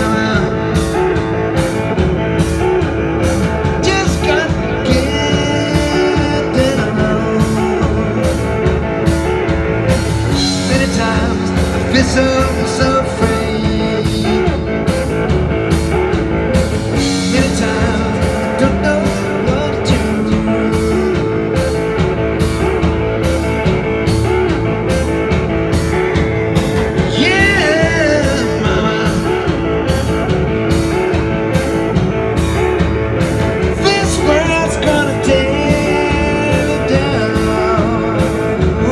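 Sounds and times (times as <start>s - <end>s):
guitar lead with bent notes: 0.0s - 38.9s
live rock band: 0.0s - 38.9s.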